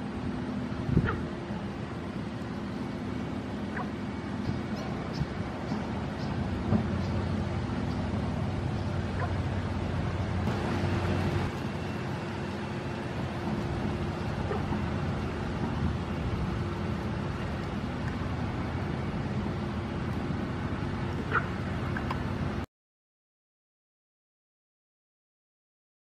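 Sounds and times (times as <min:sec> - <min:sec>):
droning hum: 0:00.0 - 0:22.7
low background rumble: 0:00.0 - 0:22.7.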